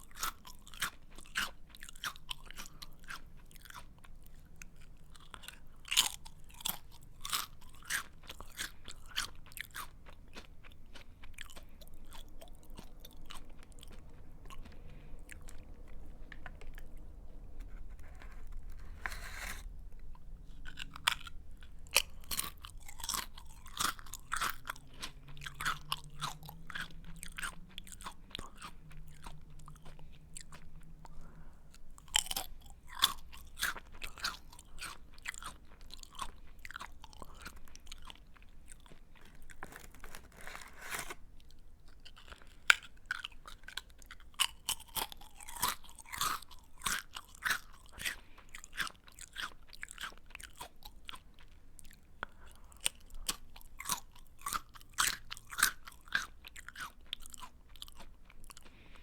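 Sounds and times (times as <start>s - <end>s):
chewing crunchy snack: 0.0s - 59.0s.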